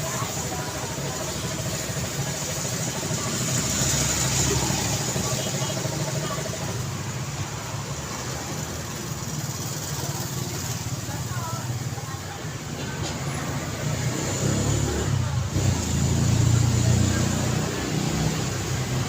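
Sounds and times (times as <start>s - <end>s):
vehicle passing close: 0.0s - 11.5s, 12.5s - 19.0s
street traffic: 0.0s - 19.0s.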